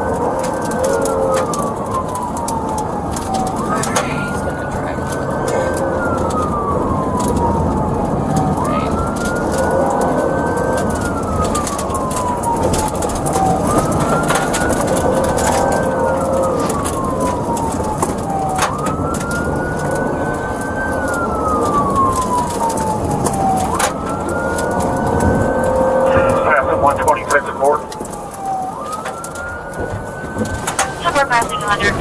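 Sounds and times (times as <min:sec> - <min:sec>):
police siren wailing: 0:00.0 - 0:32.0
road and engine noise: 0:00.0 - 0:32.0.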